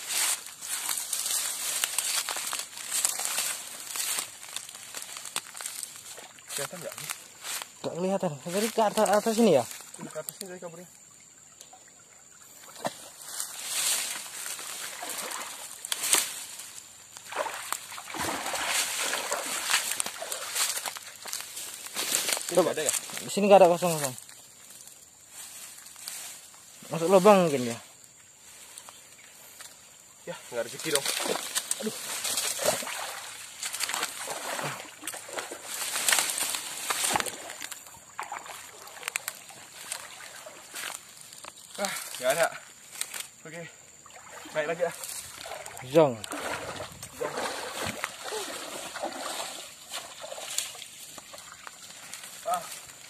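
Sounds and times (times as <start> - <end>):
water splashing and sloshing: 0.0 - 7.8, 8.5 - 26.8, 30.8 - 43.3, 43.9 - 53.0
leaves and fronds rustling: 0.0 - 53.0.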